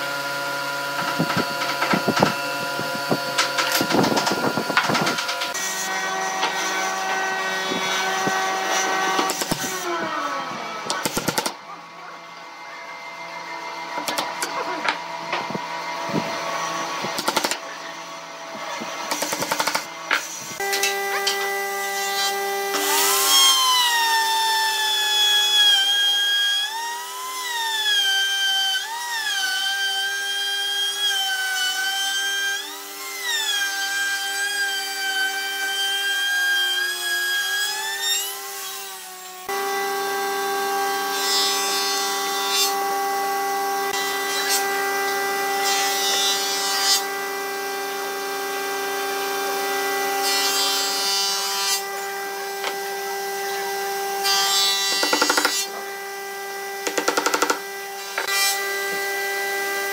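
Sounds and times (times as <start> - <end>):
router cutting wood: 0.0 - 59.9.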